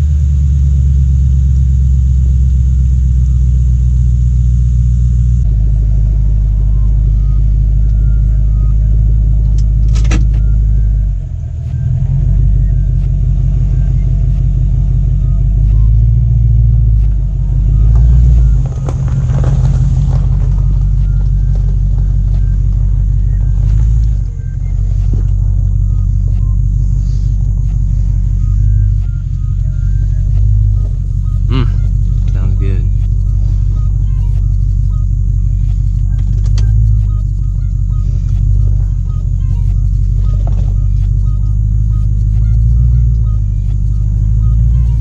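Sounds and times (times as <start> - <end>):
car engine deep rumble: 0.0 - 45.0.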